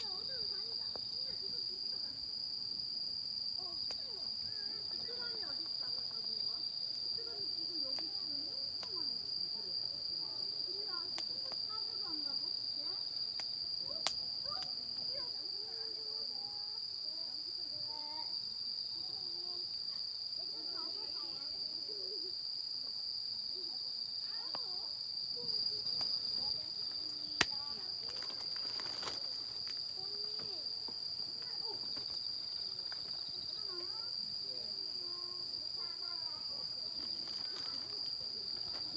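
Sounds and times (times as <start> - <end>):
faint distant voices: 0.0 - 38.9
insects chirring: 0.0 - 38.9.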